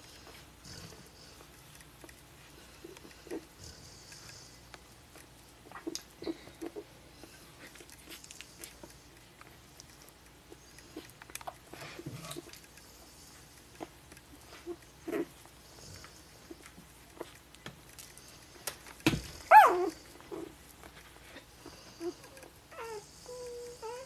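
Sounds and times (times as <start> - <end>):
puppies squeaking and grunting: 0.1 - 24.0.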